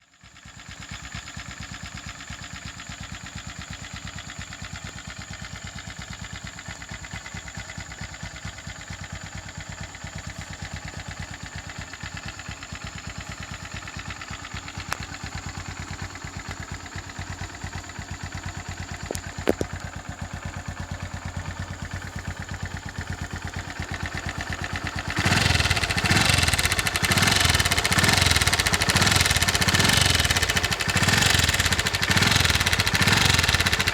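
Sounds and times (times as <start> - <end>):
motorcycle engine idling: 0.0 - 33.9
rapid tappet ticking: 6.4 - 33.9.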